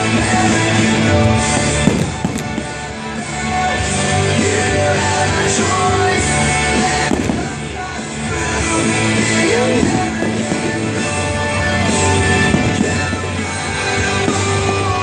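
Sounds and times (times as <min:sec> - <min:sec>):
firework bursts cracking: 0:00.0 - 0:15.0
loud rock music: 0:00.0 - 0:15.0.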